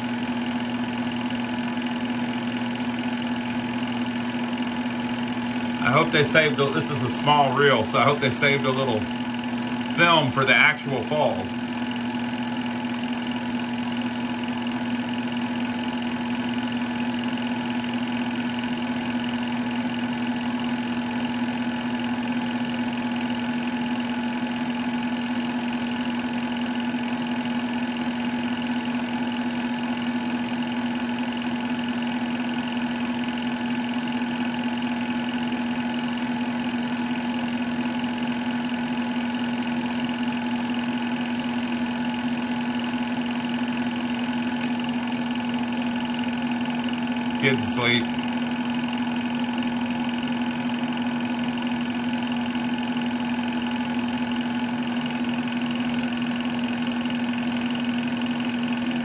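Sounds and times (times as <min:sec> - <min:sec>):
film projector running: 0:00.0 - 0:59.0.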